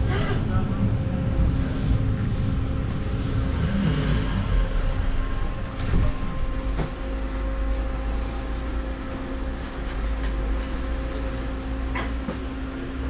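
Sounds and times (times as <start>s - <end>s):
steady hum: 0.0s - 13.0s
tram running rumble: 0.0s - 13.0s.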